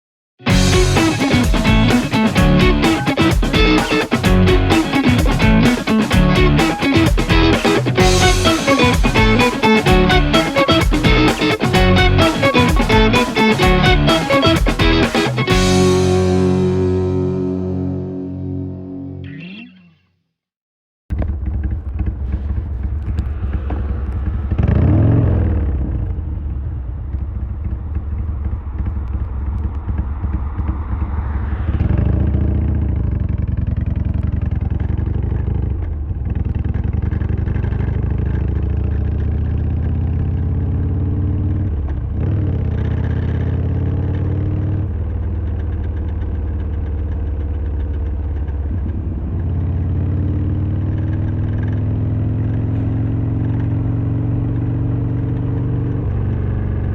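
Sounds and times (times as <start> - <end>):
motorcycle engine accelerating: 0.5 - 19.6, 21.1 - 56.9.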